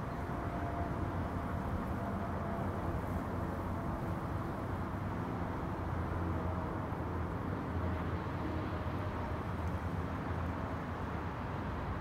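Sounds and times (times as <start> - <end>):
distant highway traffic rumble: 0.0 - 12.0
wind: 0.0 - 12.0.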